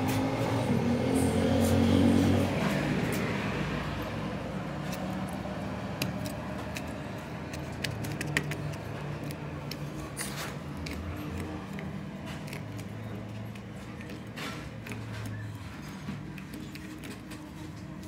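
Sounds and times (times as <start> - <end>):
metal tools scraping rubber: 1.2 - 18.0.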